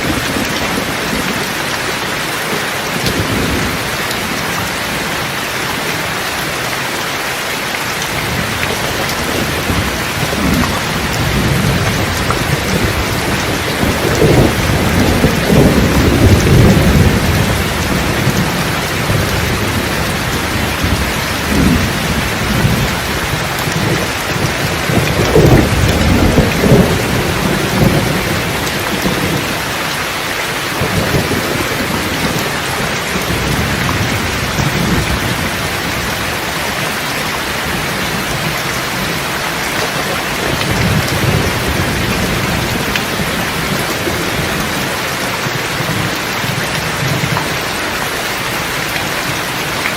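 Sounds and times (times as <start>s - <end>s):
thunder rumbling: 0.0s - 5.8s, 8.0s - 49.9s
heavy rain: 0.0s - 49.9s.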